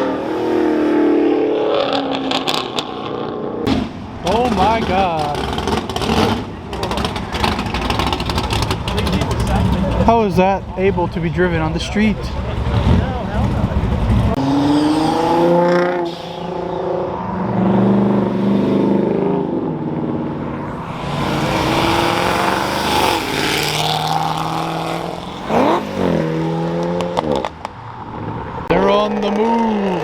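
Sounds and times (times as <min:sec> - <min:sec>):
engine throttle blips: 0:00.0 - 0:28.8
performance car engines accelerating: 0:00.0 - 0:30.0.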